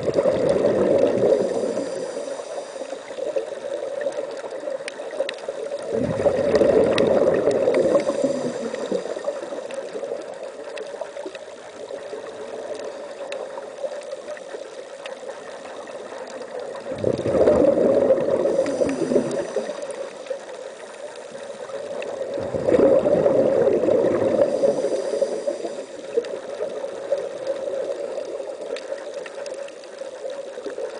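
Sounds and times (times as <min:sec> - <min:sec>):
bubbles gurgling underwater: 0:00.0 - 0:02.3, 0:03.1 - 0:14.6, 0:15.2 - 0:20.5, 0:21.4 - 0:29.6.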